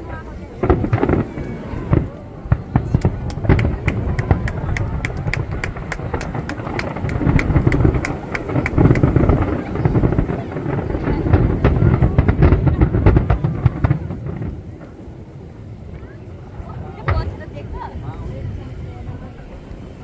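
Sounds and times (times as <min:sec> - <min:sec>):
fireworks crackling pops: 0:00.0 - 0:20.0
fireworks low rumble: 0:00.0 - 0:20.0.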